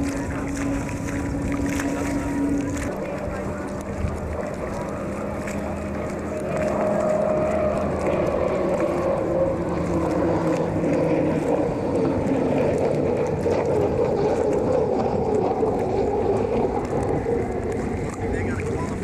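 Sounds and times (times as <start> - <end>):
racing boat engine drone: 0.0 - 19.0.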